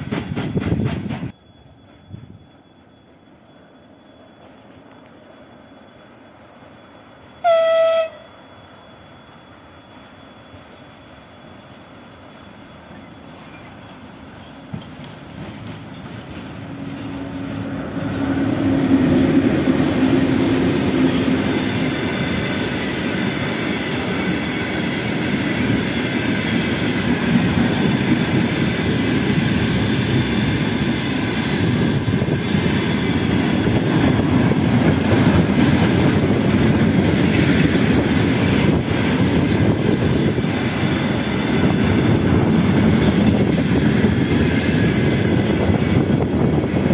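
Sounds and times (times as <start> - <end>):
electric locomotive passing: 0.0 - 46.9
train wheels rumbling on rails: 0.0 - 46.9.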